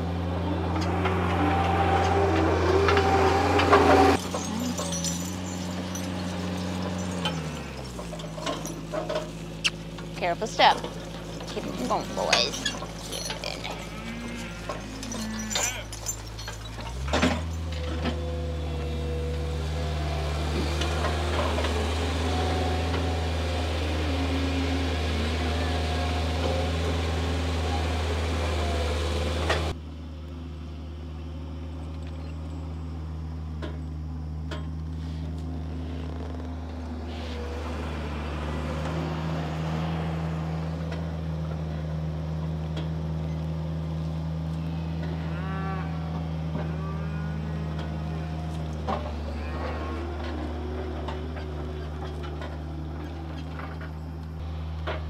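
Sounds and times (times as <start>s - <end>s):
front loader engine running: 0.0s - 55.0s.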